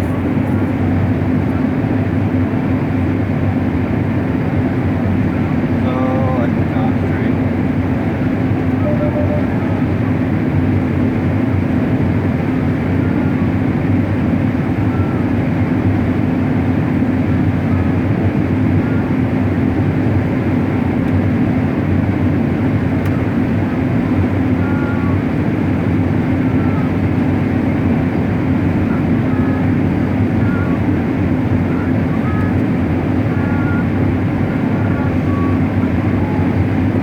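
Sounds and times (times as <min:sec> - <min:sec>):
combine harvester droning: 0:00.0 - 0:37.0.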